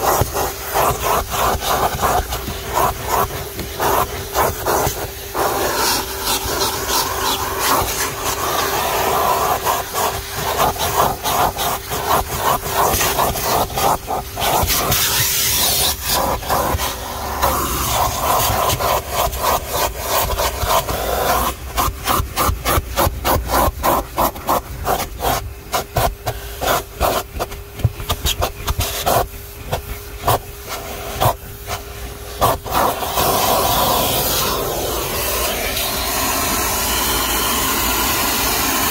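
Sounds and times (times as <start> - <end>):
vacuum cleaner on carpet: 0.0 - 38.9.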